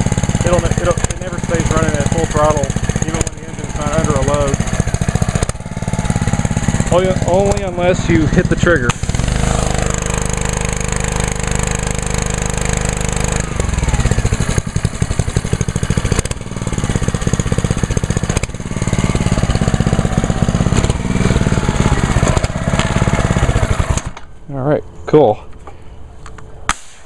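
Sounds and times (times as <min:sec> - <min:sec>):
pressure washer engine running: 0:00.0 - 0:24.2.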